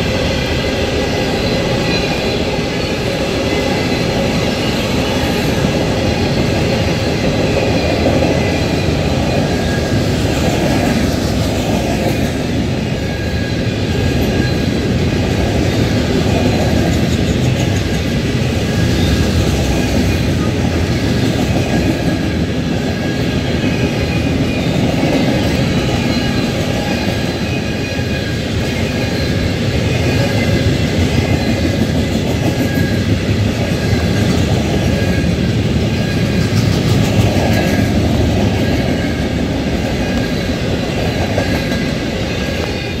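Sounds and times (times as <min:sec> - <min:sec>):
train wheels clattering on rails: 0:00.0 - 0:43.0.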